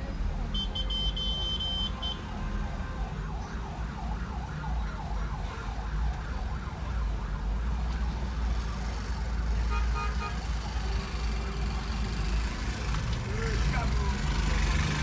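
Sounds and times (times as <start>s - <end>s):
traffic rumble inside car: 0.0s - 15.0s.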